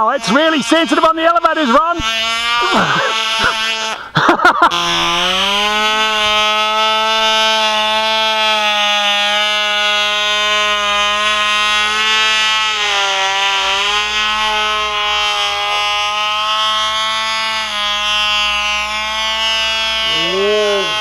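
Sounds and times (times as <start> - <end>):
model plane engine buzzing: 0.0 - 21.0.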